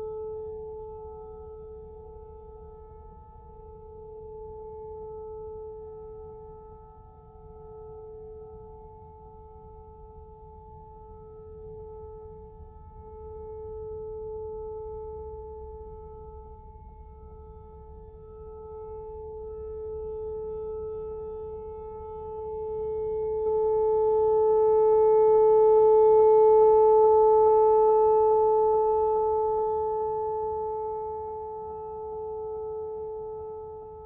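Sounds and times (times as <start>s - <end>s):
warning siren steady tone: 0.0s - 34.0s.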